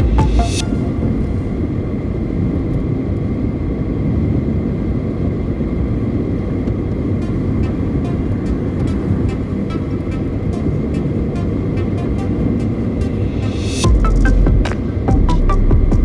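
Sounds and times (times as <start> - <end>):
car driving on highway: 0.0 - 16.0.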